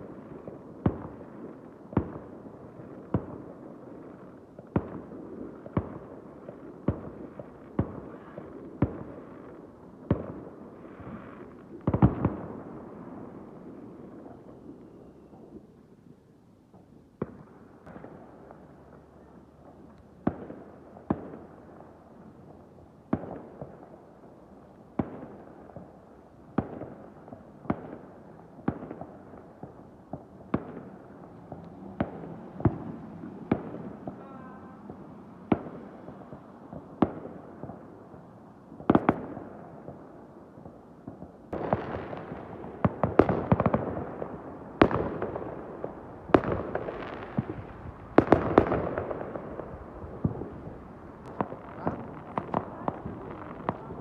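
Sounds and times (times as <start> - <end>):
fireworks exploding: 0.0 - 54.0.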